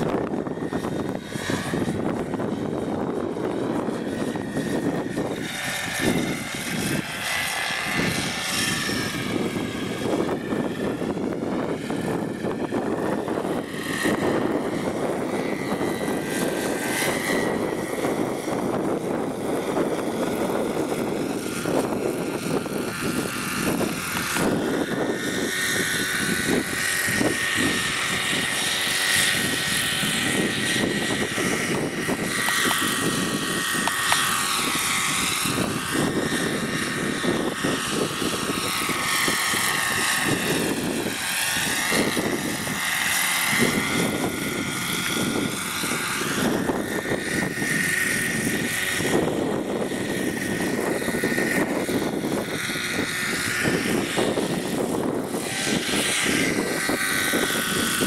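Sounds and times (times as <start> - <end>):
model helicopter engine whine: 0.0 - 58.0
wind buffeting microphone: 0.0 - 58.0.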